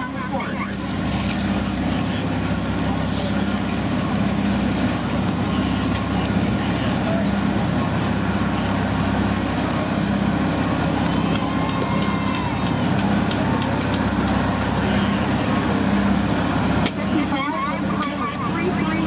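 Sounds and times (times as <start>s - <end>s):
chairlift machinery humming: 0.0s - 19.0s.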